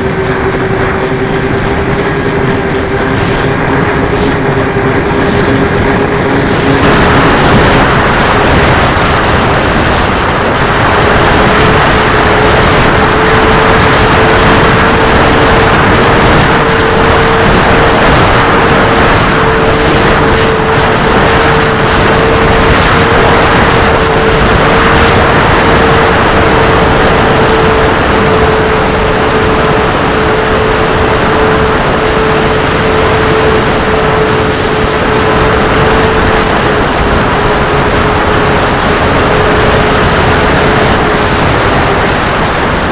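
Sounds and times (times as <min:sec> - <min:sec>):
small motor running: 0:00.0 - 0:42.9
wind buffeting microphone: 0:00.0 - 0:42.9.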